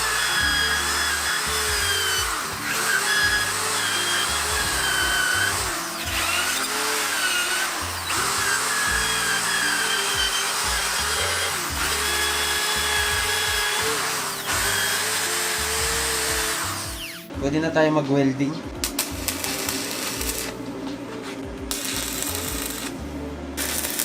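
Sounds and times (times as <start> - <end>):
power tool whining on metal: 0.0 - 17.3, 18.9 - 20.6, 21.7 - 23.0, 23.6 - 24.0
background music with low beat: 0.0 - 24.0.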